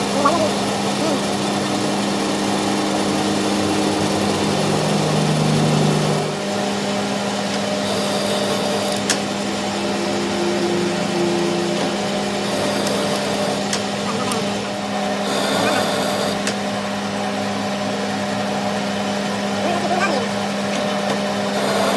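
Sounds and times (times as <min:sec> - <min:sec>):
machine motor humming: 0:00.0 - 0:21.9.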